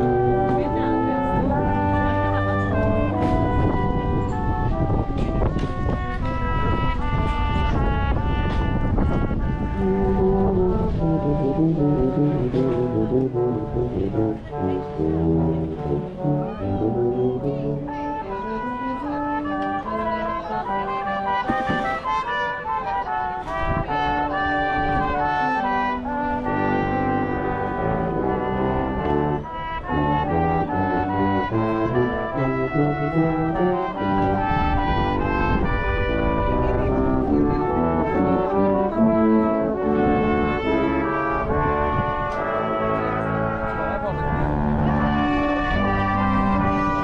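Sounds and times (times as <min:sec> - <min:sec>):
brass instruments playing melody: 0:00.0 - 0:47.0.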